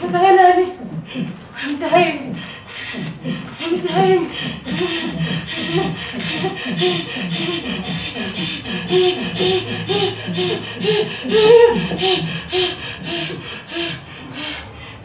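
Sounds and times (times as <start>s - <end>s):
rhythmic vocal syllables and hisses: 0.0s - 15.0s.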